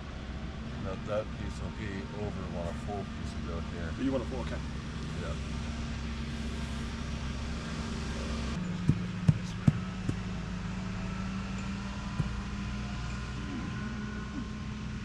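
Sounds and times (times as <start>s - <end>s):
engine idling drone: 0.0s - 15.0s.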